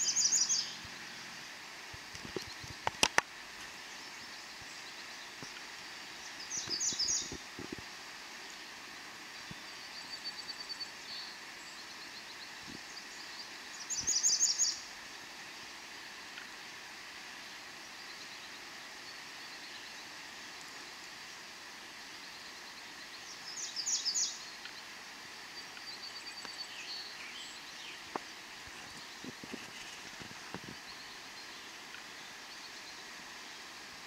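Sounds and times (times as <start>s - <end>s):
songbirds calling: 0.0s - 34.0s
steady outdoor hiss: 0.0s - 34.0s.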